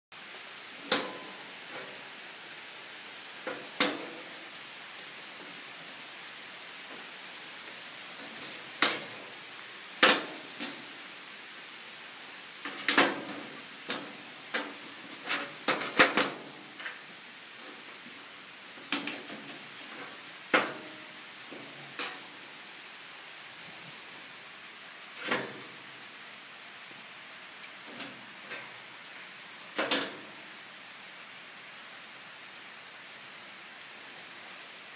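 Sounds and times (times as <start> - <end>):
faint steady hiss: 0.2 - 34.9.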